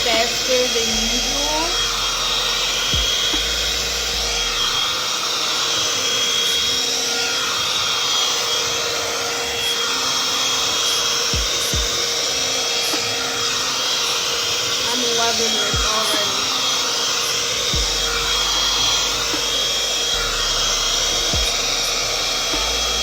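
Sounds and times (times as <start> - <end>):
hot-air dryer brush running: 0.0 - 23.0.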